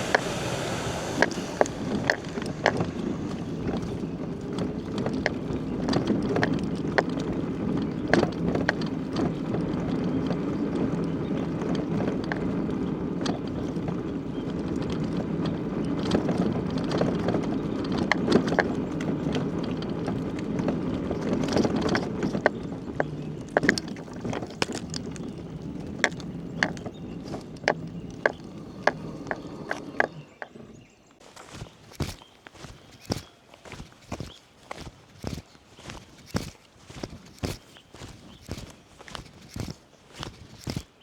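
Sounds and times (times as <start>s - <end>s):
bicycle tyres on road: 0.0s - 41.0s
wind on microphone: 0.0s - 41.0s.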